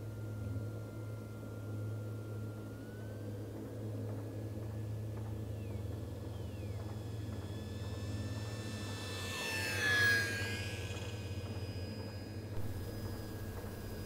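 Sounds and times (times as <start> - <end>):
electric model plane motor whining: 0.0 - 14.0
steady low hum: 0.0 - 14.0.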